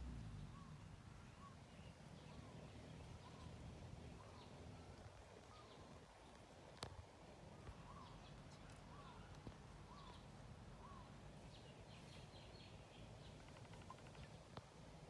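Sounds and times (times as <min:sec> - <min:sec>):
bird calling: 0:00.4 - 0:06.0, 0:07.6 - 0:14.5.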